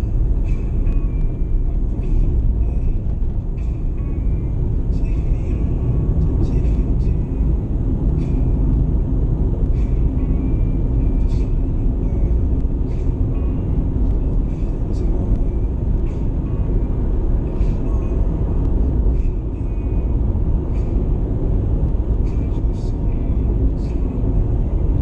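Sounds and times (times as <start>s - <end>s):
car cabin road noise: 0.0s - 25.0s.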